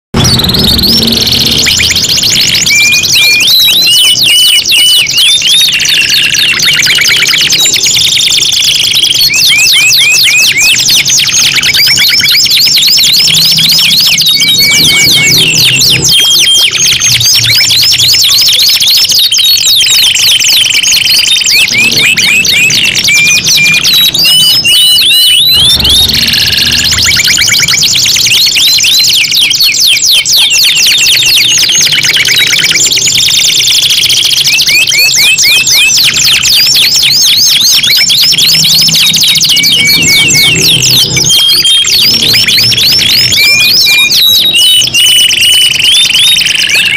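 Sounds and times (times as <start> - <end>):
canaries singing: 0.2 - 46.9.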